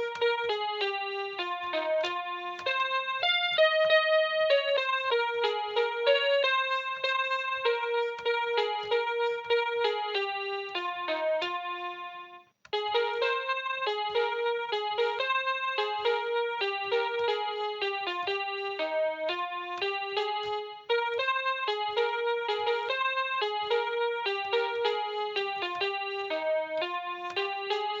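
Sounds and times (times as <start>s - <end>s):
electronic keyboard melody: 0.0s - 28.0s.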